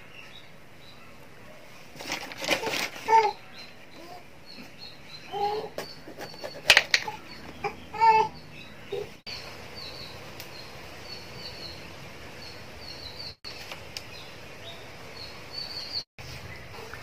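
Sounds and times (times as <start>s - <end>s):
small bird chirping: 3.1s - 17.0s.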